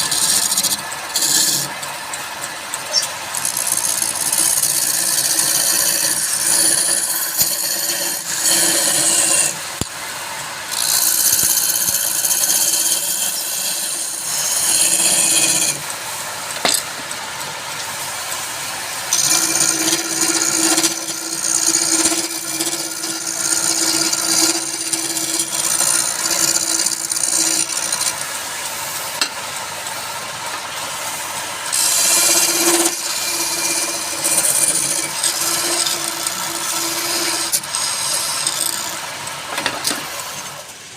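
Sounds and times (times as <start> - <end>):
wood lathe scraping and cutting: 0.0 - 40.8.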